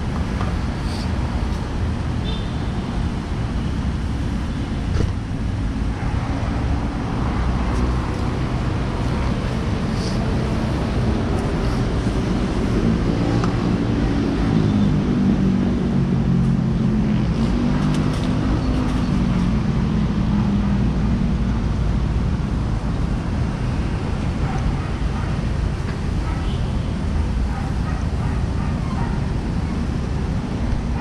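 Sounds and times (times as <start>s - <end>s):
low rumble of road traffic: 0.0s - 31.0s
vehicle engine running nearby: 0.0s - 31.0s.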